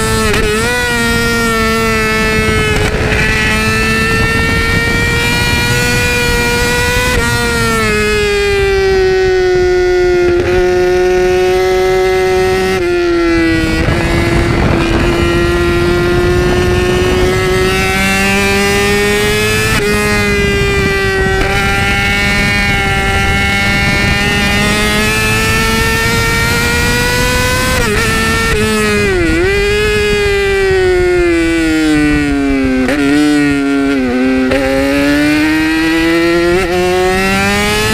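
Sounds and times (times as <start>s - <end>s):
motorcycle engine at high revs: 0.0s - 37.9s.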